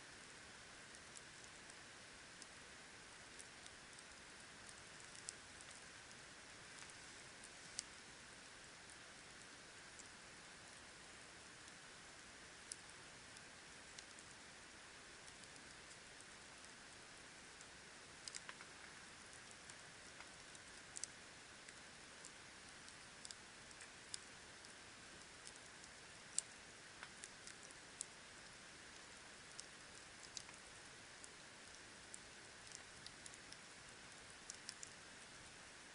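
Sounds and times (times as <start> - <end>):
faint steady hiss: 0.0 - 35.9
campfire crackling and popping: 0.2 - 35.9.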